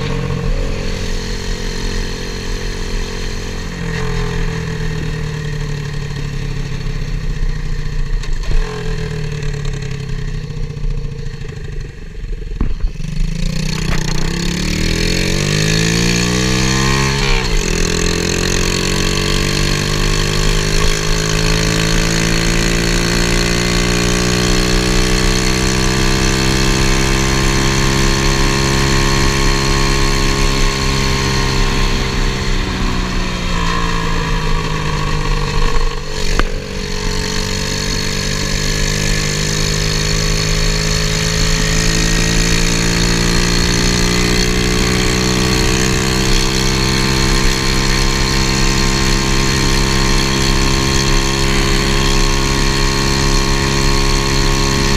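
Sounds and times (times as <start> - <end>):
small motorbike engine running: 0.0 - 54.9.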